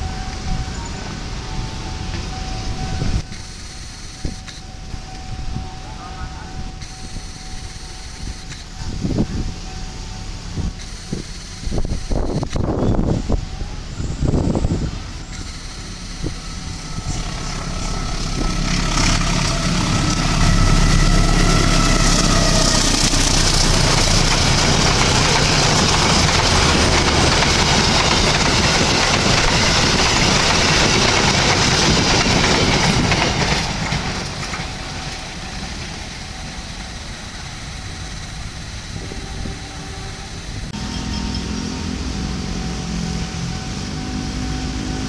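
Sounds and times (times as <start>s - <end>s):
locomotive engine: 0.0s - 45.0s
train wheels rushing on rails: 6.6s - 45.0s.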